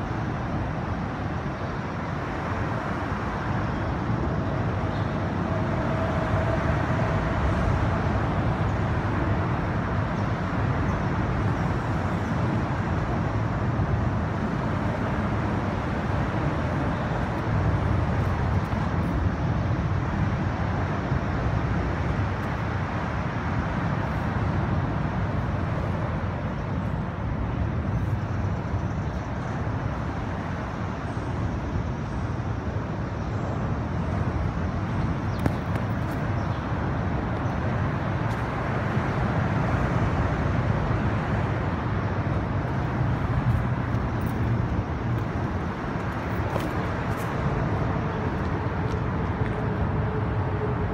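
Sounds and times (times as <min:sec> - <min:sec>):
highway traffic noise: 0:00.0 - 0:50.9.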